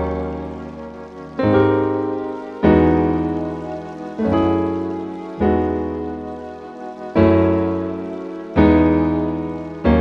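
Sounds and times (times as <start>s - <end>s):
piano chords ringing: 0.0s - 10.0s.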